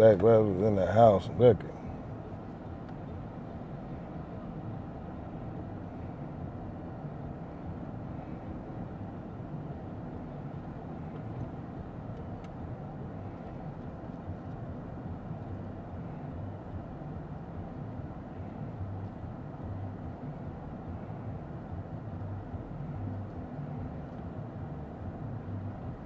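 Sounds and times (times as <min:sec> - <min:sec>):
car engine and tyre hum: 0:00.0 - 0:26.0.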